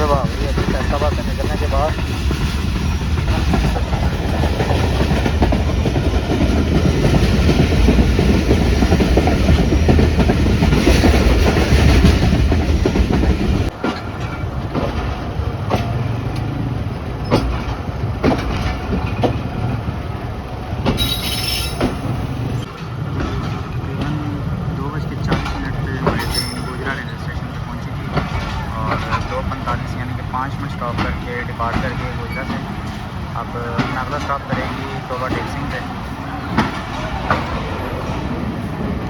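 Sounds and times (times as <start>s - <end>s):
train wheels rumbling: 0.0s - 39.0s
wheels clacking over rail joints: 0.0s - 39.0s.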